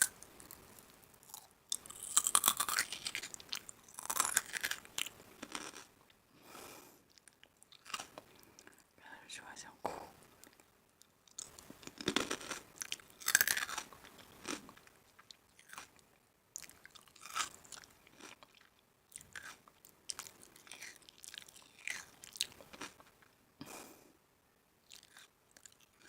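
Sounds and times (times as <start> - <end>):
person chewing crunchy food: 0.0 - 6.0, 7.1 - 8.8, 11.3 - 16.0, 16.6 - 24.0, 24.8 - 26.0.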